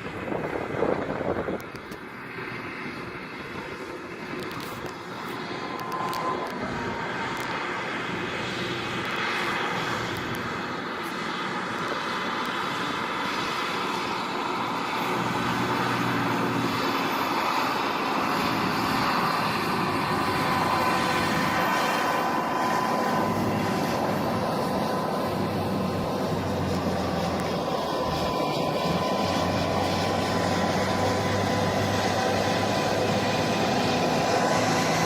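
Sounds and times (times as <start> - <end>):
engine drone: 0.0 - 35.0.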